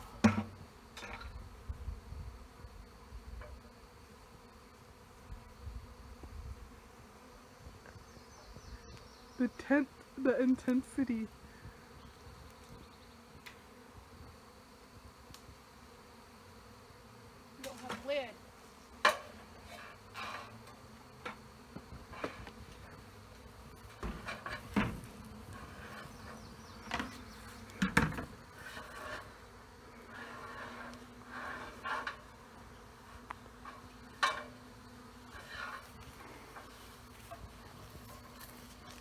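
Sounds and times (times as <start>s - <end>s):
single bees flying close: 0.0s - 39.0s
swarm of honeybees buzzing: 0.0s - 39.0s.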